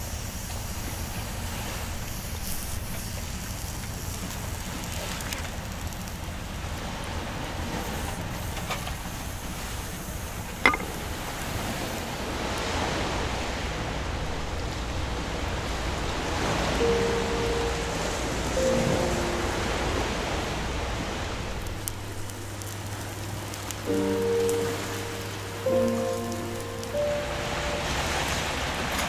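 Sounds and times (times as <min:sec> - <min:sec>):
wind: 0:00.0 - 0:29.0
surf: 0:00.1 - 0:29.0.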